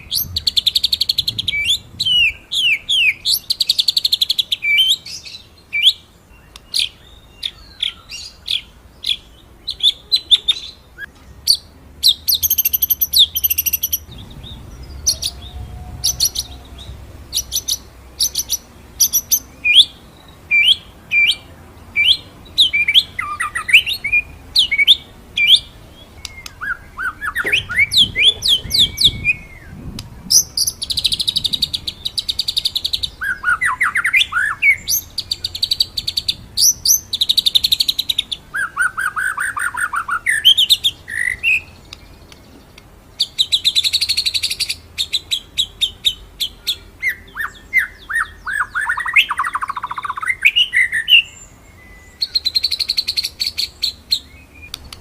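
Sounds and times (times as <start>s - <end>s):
songbird whistling and trilling: 0.0s - 42.4s, 43.2s - 55.0s.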